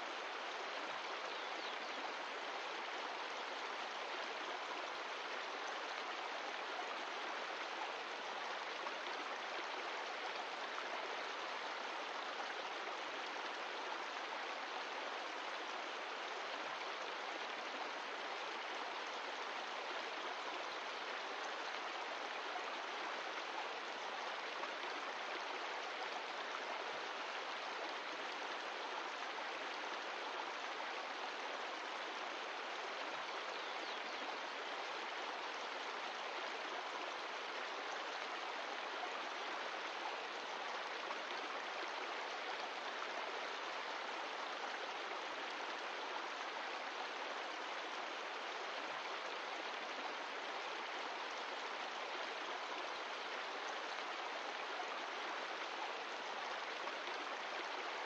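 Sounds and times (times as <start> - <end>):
stream running water: 0.0 - 58.0.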